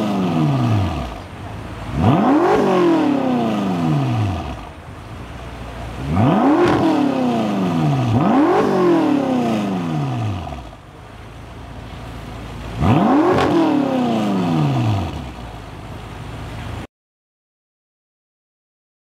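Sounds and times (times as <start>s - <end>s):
car engine revving and idling: 0.0s - 16.9s.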